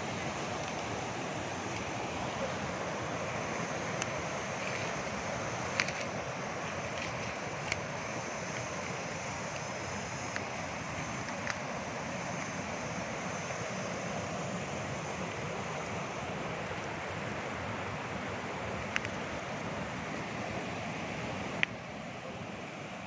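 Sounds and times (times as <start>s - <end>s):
waterfall rushing water: 0.0s - 23.0s.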